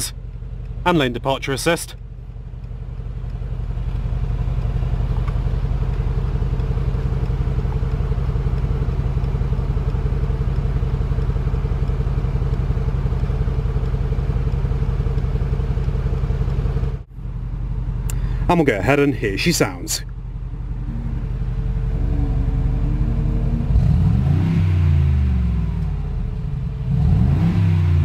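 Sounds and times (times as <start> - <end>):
car engine idling: 0.0 - 27.3.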